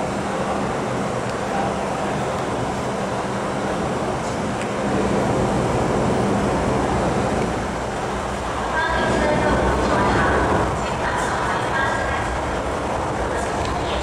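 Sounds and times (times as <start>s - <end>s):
train passing through station: 0.0s - 14.0s.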